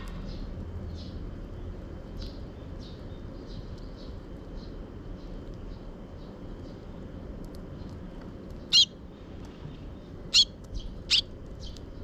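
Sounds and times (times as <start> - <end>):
beaks pecking seed on wood: 0.0 - 9.6, 10.2 - 12.0
sparrows chirping: 0.0 - 12.0.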